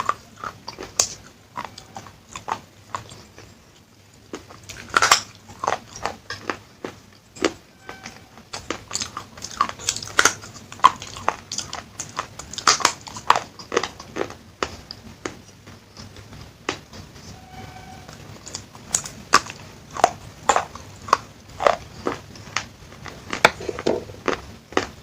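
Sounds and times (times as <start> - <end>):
crunchy clay being chewed: 0.0 - 17.4, 18.0 - 25.0.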